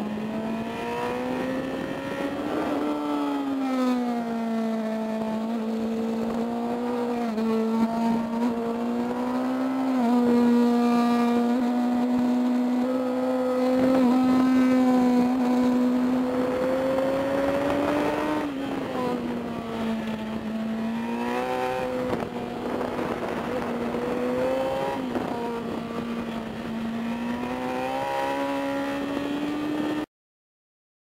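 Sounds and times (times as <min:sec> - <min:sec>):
wind noise: 0:00.0 - 0:30.0
motorcycle engine at speed: 0:00.0 - 0:30.1.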